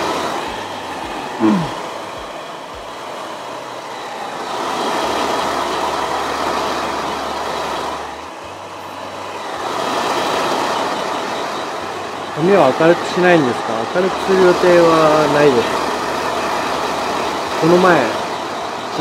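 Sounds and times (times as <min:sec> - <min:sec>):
low hum: 0:00.0 - 0:19.0
steady rushing noise: 0:00.0 - 0:19.0.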